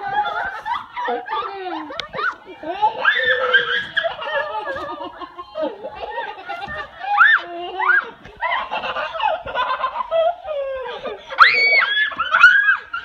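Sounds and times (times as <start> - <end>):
children babbling: 0.0 - 13.0
children giggling and squealing: 0.0 - 13.0.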